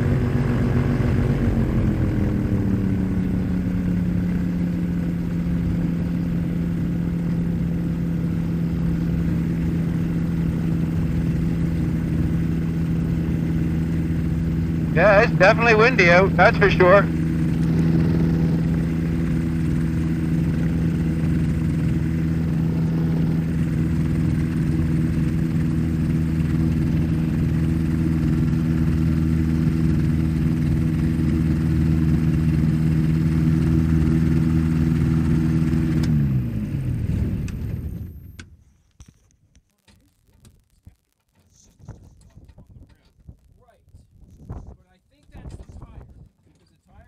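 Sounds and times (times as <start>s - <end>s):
engine and propeller spinning down: 0.0s - 38.5s
ultralight aircraft engine running: 0.0s - 38.5s.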